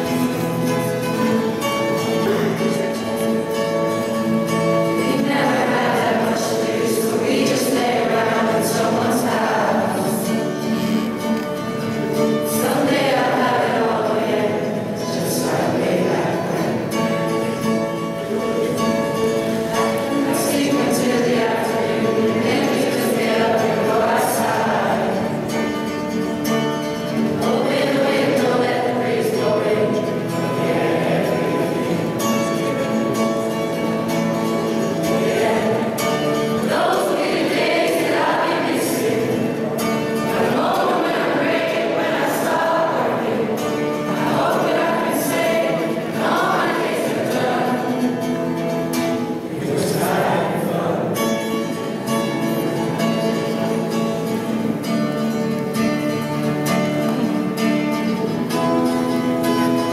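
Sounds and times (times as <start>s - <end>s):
choir of children singing: 1.8s - 4.0s, 4.8s - 53.4s.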